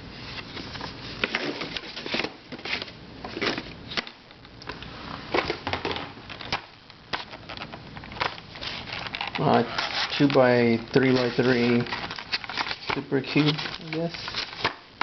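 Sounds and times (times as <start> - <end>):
packaging rustling: 0.3 - 4.2, 5.3 - 15.0.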